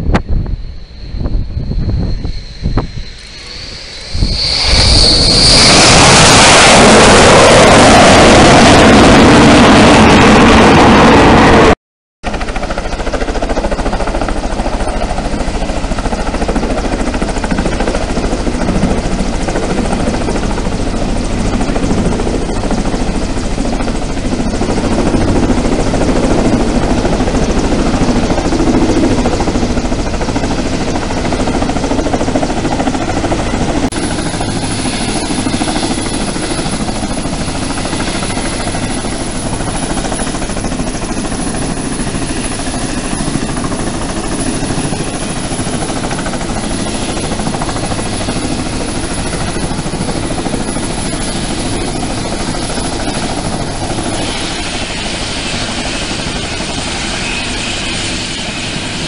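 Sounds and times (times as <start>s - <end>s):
helicopter rotors and engines: 0.0s - 59.0s.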